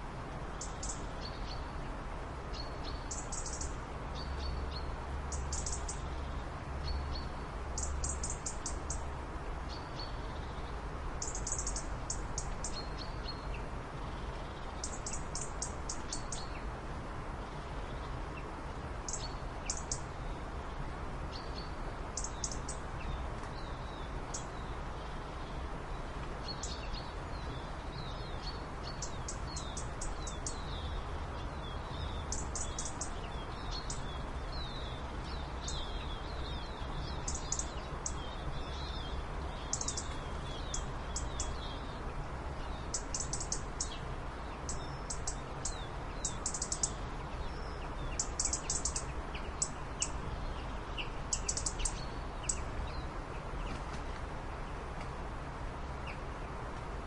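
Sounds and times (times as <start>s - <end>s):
steady low background noise: 0.0s - 57.0s
small birds chirping: 0.5s - 16.7s, 17.3s - 55.0s.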